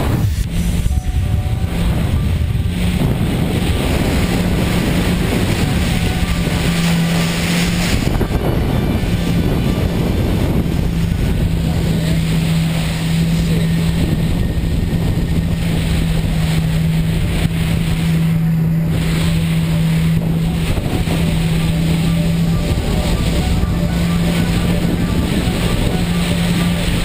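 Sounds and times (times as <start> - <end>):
jet ski engine drone: 0.0 - 27.0
water jets rushing: 0.0 - 27.0
wind buffeting microphone: 0.0 - 27.0.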